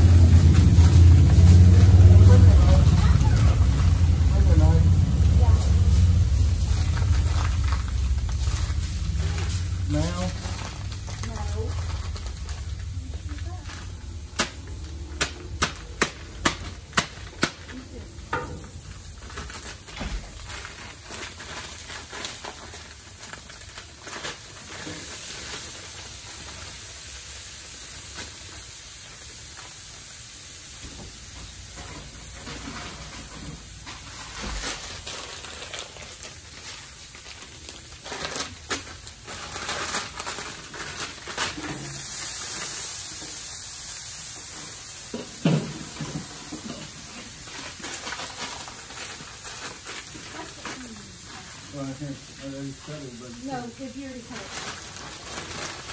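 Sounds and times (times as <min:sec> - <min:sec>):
cauliflower sizzling on griddle: 0:00.0 - 0:55.9.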